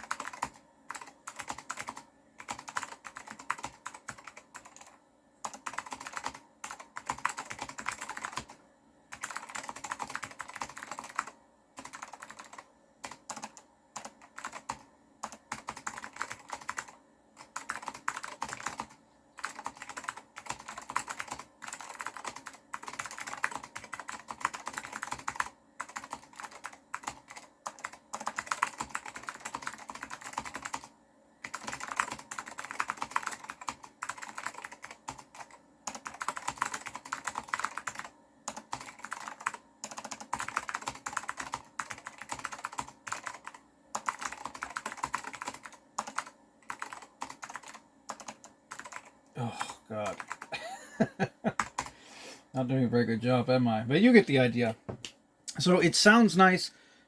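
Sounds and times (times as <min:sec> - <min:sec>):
clicky keyboard typing: 0:00.0 - 0:49.2, 0:50.0 - 0:50.5, 0:51.5 - 0:51.9.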